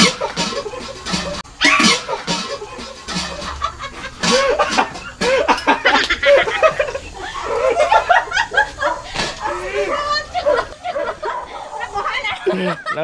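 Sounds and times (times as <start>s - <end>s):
woman laughing: 0.0s - 13.0s.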